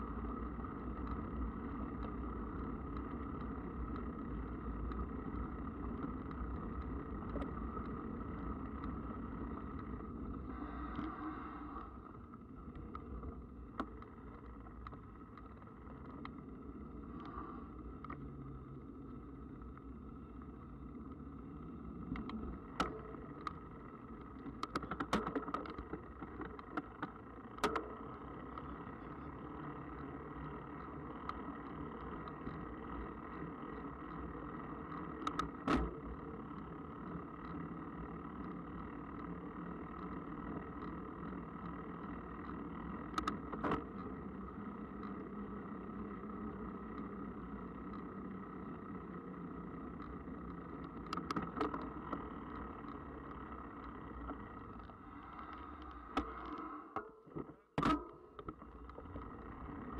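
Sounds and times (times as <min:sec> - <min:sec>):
bike rolling noise: 0:00.0 - 0:59.9.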